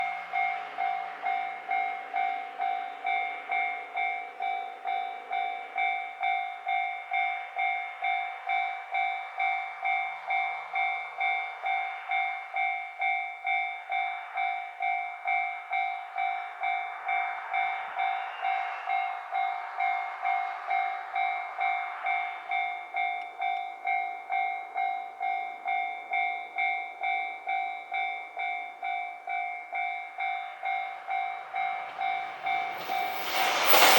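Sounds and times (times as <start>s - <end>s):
diesel train passing: 0.0s - 33.9s
level-crossing bell dinging: 0.0s - 33.9s.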